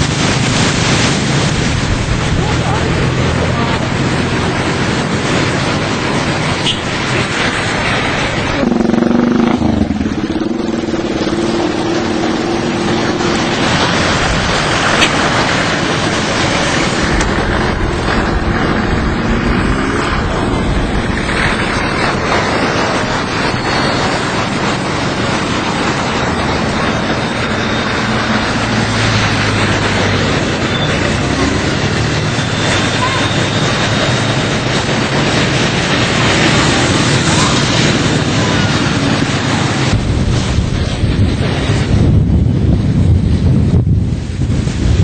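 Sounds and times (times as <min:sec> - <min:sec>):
vehicle engine running: 0:00.0 - 0:43.4
rushing floodwater: 0:00.0 - 0:45.0
wind noise on microphone: 0:00.0 - 0:45.0.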